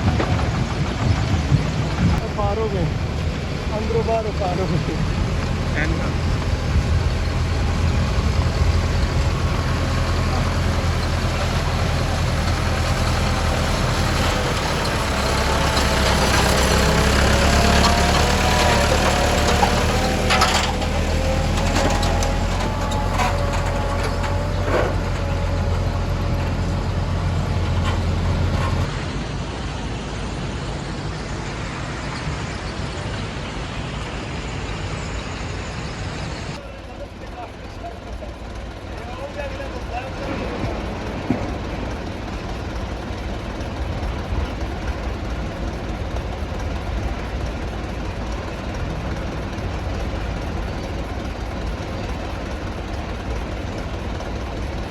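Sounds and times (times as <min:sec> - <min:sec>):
diesel machinery drone: 0:00.0 - 0:54.9
wavering whine: 0:02.0 - 0:54.9.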